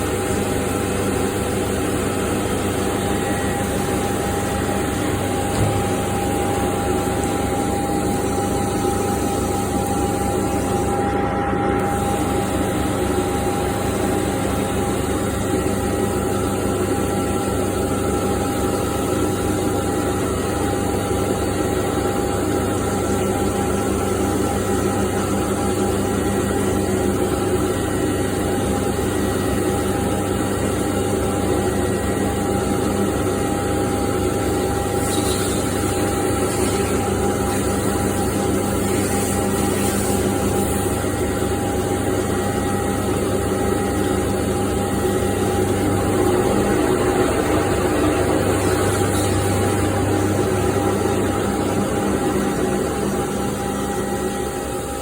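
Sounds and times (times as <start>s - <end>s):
cnc machine cutting steel: 0.0s - 55.0s.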